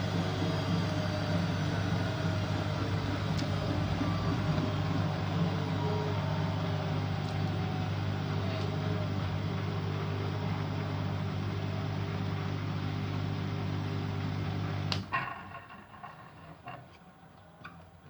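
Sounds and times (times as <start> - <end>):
washing machine humming: 0.0 - 15.3.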